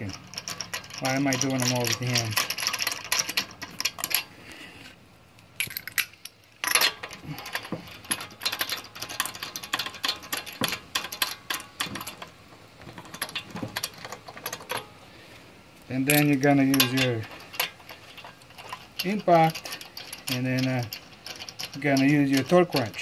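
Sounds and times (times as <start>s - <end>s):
lug nuts clicking and rattling: 0.0s - 4.6s, 5.3s - 23.0s.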